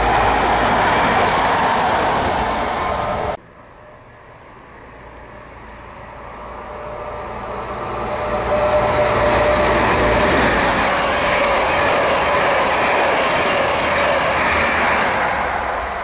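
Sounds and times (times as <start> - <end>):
diesel train approaching: 0.0 - 16.0
passing train noise: 0.0 - 16.0.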